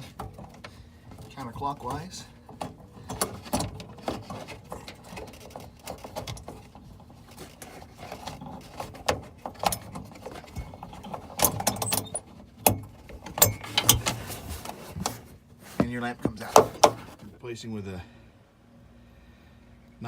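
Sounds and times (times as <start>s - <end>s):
rustling and handling noise: 0.0s - 17.4s.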